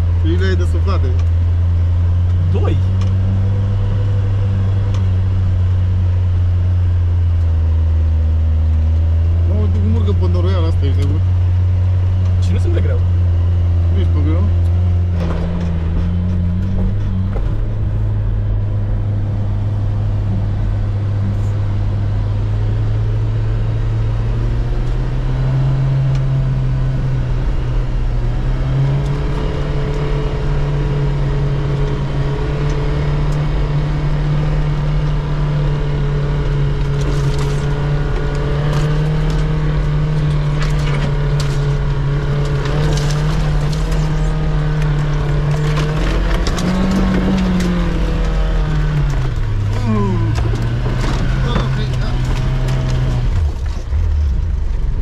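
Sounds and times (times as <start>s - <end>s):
car engine under load: 0.0s - 55.0s.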